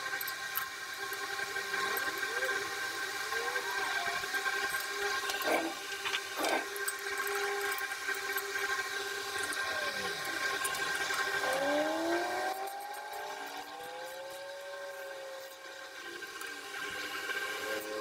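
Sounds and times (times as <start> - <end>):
steady hum of held tones: 0.0 - 18.0.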